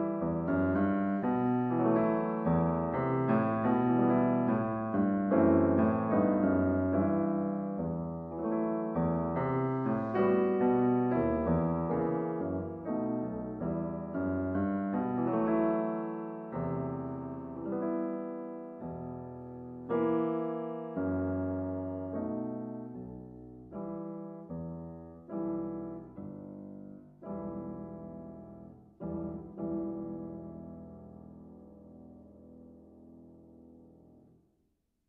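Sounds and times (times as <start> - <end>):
solo piano music: 0.0 - 34.4.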